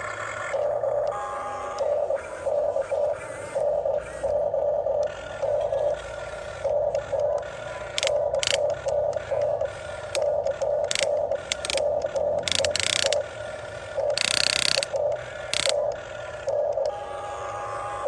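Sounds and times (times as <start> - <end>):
electric motors whirring and grinding: 0.0 - 18.0.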